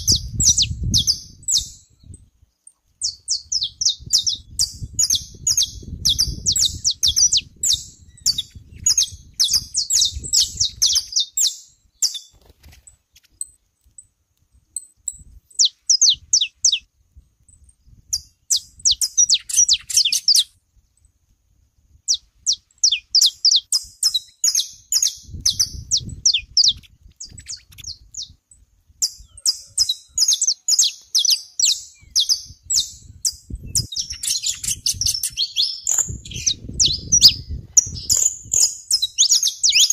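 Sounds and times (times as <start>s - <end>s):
finches chirping and singing: 0.0s - 2.3s, 3.0s - 12.3s, 14.6s - 16.9s, 17.6s - 21.0s, 22.1s - 28.4s, 29.0s - 39.9s.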